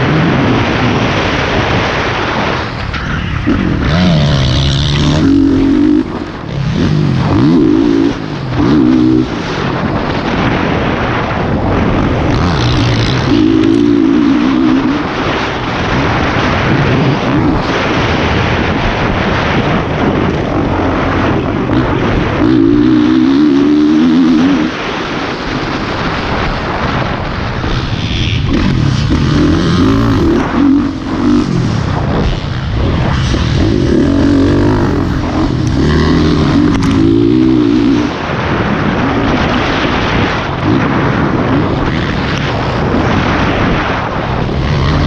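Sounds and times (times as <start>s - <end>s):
motorcycle engine revving: 0.0s - 45.0s
wind rush on microphone: 0.0s - 45.0s.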